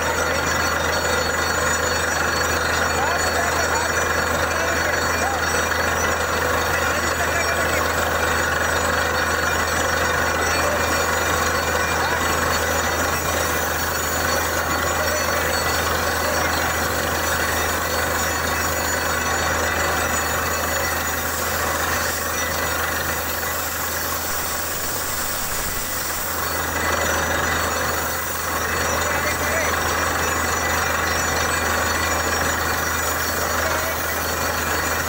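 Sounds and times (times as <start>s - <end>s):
dense mechanical noise: 0.0s - 35.0s
drilling rig engine drone: 0.0s - 35.0s.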